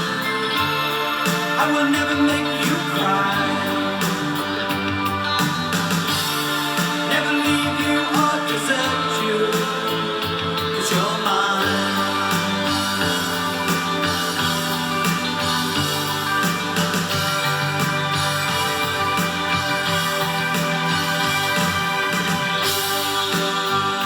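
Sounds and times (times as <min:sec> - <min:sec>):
person singing: 0:00.0 - 0:24.0
synth-pop band music: 0:00.0 - 0:24.0.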